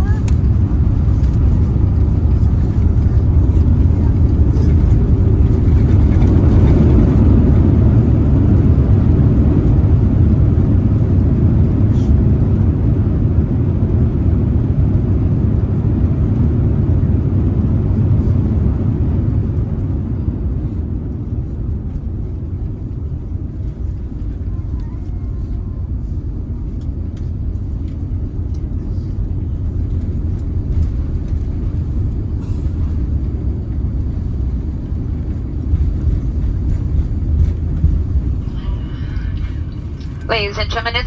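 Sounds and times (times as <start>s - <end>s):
aircraft cabin engine rumble: 0.0s - 41.0s.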